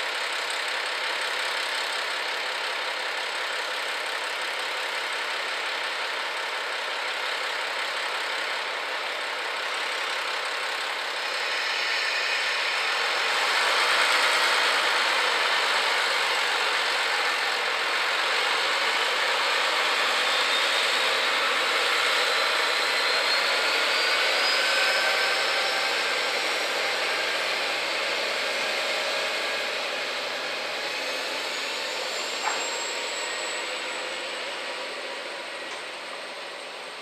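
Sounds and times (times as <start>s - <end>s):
diesel railcar engine whining: 0.0s - 37.0s.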